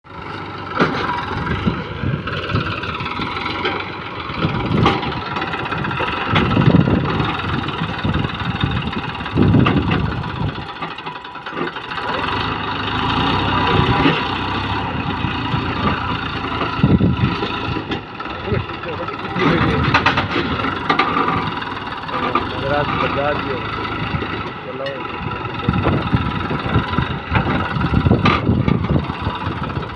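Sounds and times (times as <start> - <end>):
tractor engine revving: 0.1 - 29.9.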